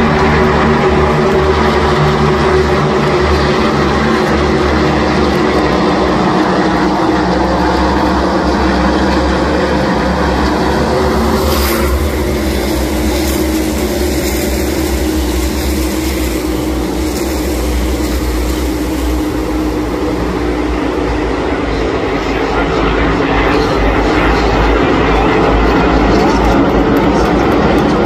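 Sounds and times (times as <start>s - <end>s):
race car engines at speed: 0.0s - 28.0s.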